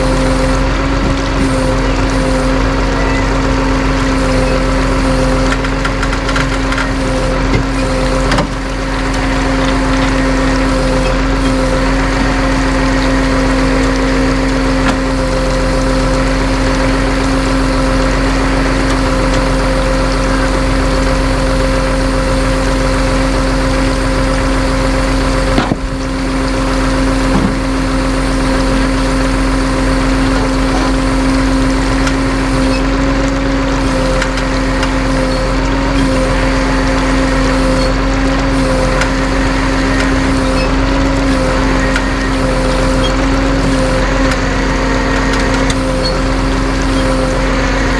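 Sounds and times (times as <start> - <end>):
vehicle engine humming: 0.0 - 47.9.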